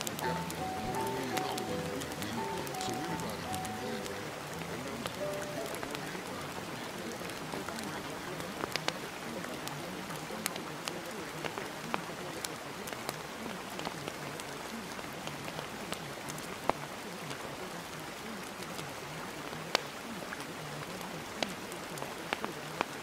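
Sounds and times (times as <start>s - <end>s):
faint voice murmur: 0.0s - 23.0s
rain patter: 0.0s - 23.0s.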